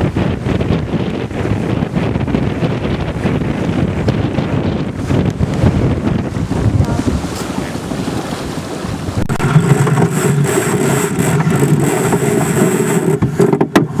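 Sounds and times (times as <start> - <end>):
water against hull: 0.0 - 14.0
wind buffeting microphone: 0.0 - 14.0.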